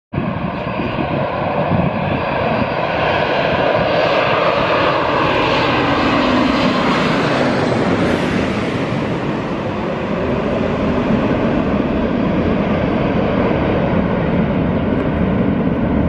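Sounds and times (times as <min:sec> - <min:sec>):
jet airliner passing overhead: 0:00.1 - 0:16.0.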